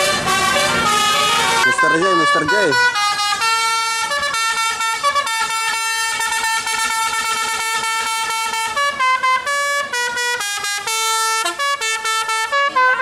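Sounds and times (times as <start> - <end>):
musical air horn playing tune: 0.0 - 13.0.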